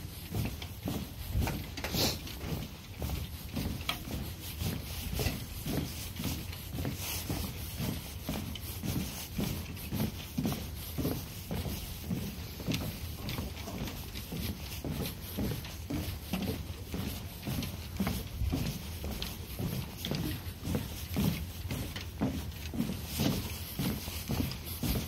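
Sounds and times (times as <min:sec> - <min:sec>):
footsteps walking: 0:00.0 - 0:25.0.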